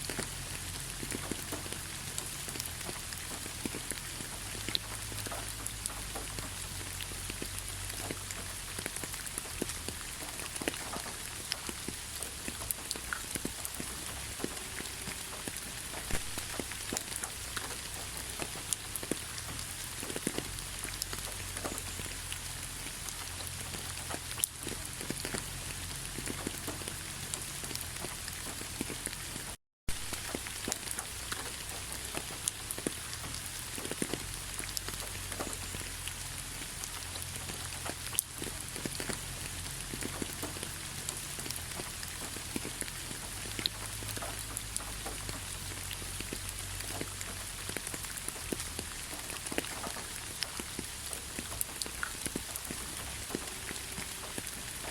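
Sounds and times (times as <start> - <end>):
raindrops ticking close by: 0.0 - 54.9
steady rainfall hiss: 0.0 - 54.9.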